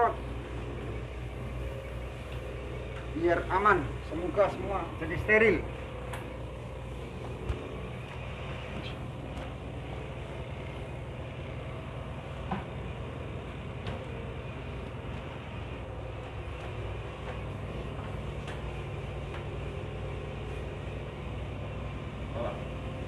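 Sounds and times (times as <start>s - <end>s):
ship machinery drone: 0.0s - 23.0s.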